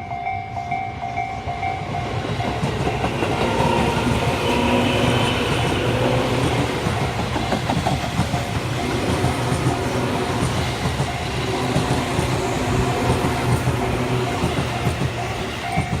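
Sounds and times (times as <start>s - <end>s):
electric train rumbling past: 0.0s - 16.0s
wheels clacking over rail joints: 1.9s - 16.0s.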